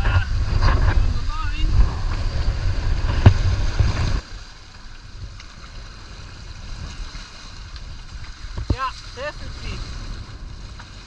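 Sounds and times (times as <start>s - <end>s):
rush of wind and water: 0.0s - 11.0s
wind buffeting microphone: 0.0s - 11.0s.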